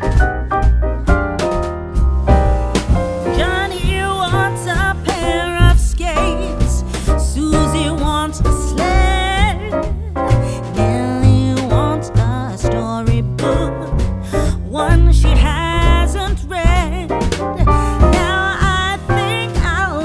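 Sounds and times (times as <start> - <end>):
upbeat song with vocals: 2.8 - 20.0.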